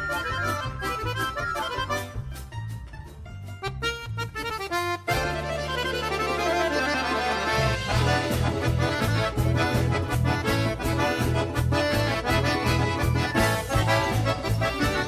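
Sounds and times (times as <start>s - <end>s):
accordion folk band playing: 0.0s - 15.0s.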